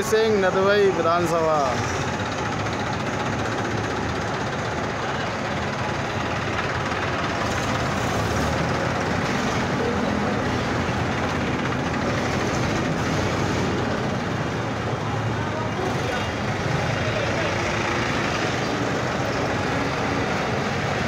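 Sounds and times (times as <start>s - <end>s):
diesel tractor engines running: 0.0s - 21.0s.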